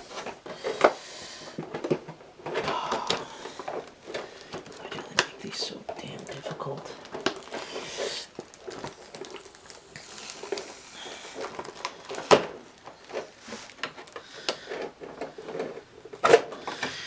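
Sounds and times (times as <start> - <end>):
packaging rustling: 0.0 - 17.0.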